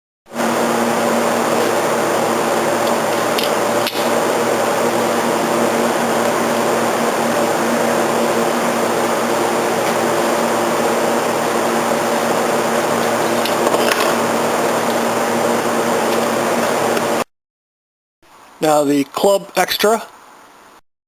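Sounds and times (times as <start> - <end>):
fan-like machine whirring hum: 0.3 - 17.2.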